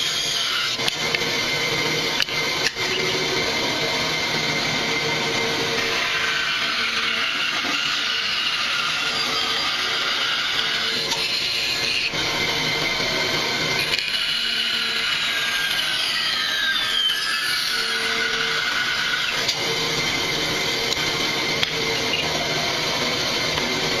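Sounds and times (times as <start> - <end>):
bandsaw cutting wood: 0.0 - 24.0.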